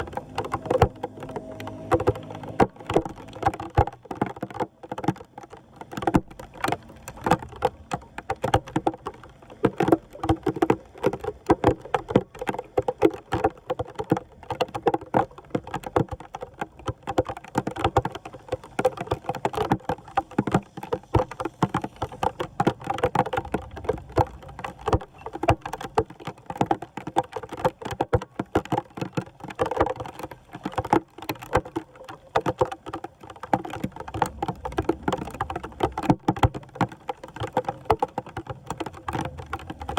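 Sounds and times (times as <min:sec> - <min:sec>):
floodwater splashing at a drain: 0:00.0 - 0:39.9
patter of sharp ticks and splashes: 0:00.0 - 0:39.9.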